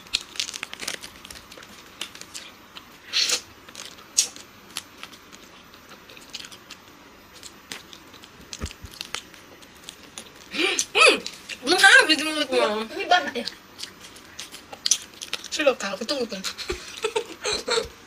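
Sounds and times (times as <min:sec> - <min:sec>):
people chewing ice cream: 0:00.0 - 0:15.6.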